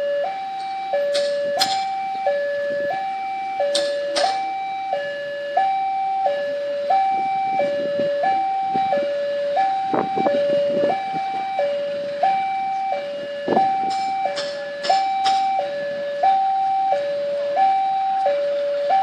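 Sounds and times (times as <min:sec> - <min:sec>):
two-tone level crossing alarm: 0:00.0 - 0:19.0.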